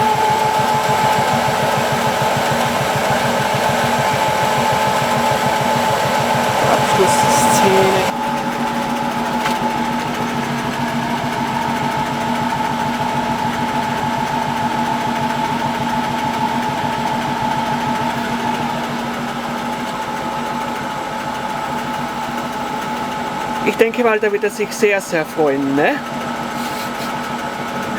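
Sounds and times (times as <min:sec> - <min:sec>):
washing machine running: 0:00.0 - 0:27.9.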